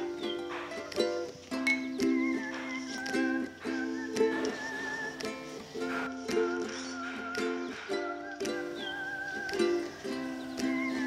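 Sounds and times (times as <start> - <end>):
strummed string chords: 0.0 - 11.0
wavering melody: 0.0 - 11.0.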